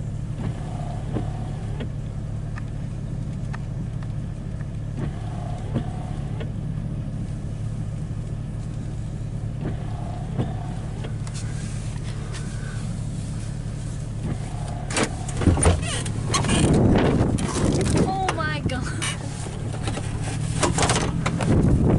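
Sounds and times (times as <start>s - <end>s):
vehicle engine hum inside cabin: 0.0s - 21.9s.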